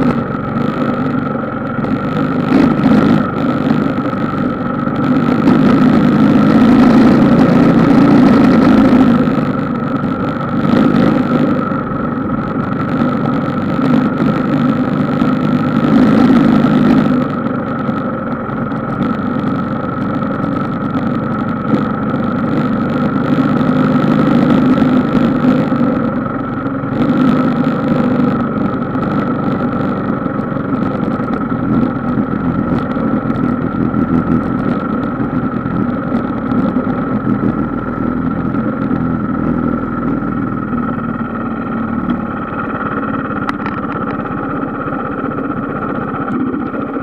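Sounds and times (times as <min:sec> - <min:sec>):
small off-road vehicle engine: 0:00.0 - 0:47.0.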